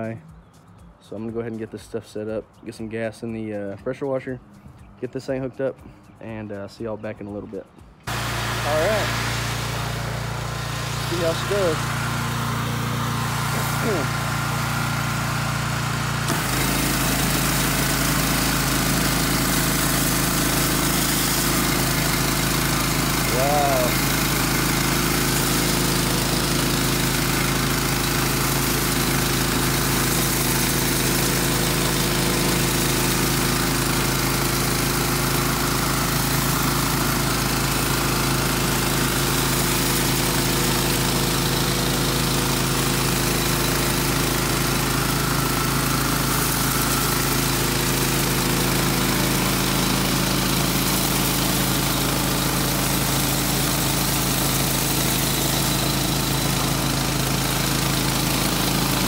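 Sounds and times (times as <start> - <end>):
pressure washer engine running: 7.3 - 59.0
high-pressure water spraying on concrete: 8.1 - 59.0.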